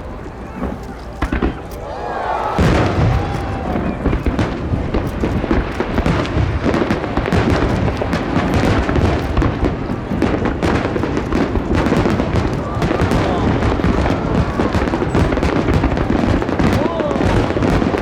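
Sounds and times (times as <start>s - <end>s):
deep firework bangs: 0.0s - 18.0s
fireworks crackling and popping: 0.0s - 18.0s.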